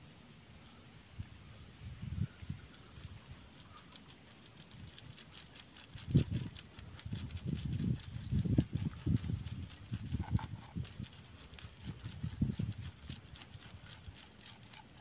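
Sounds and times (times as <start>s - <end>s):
fingers scraping hard growths: 2.6s - 15.0s.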